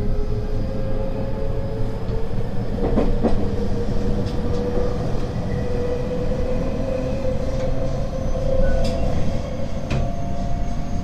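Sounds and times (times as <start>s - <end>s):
electric train hum: 0.0s - 11.0s
train running gear rumble: 0.0s - 11.0s.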